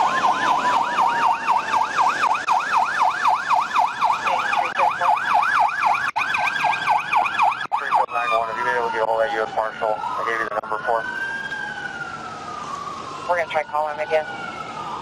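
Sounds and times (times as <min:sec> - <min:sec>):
police siren yelping: 0:00.0 - 0:15.0
slower gliding siren tone: 0:00.0 - 0:15.0.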